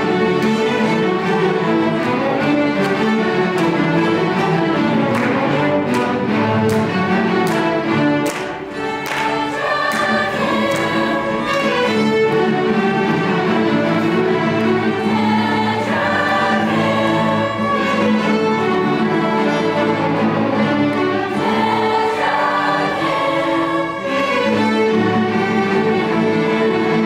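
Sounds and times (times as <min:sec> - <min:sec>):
string ensemble playing chords: 0:00.0 - 0:27.0.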